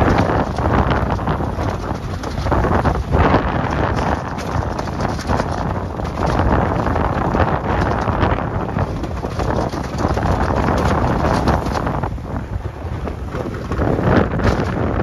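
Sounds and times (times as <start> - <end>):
pickup truck driving through snow: 0.0 - 15.0
wind buffeting microphone: 0.0 - 15.0.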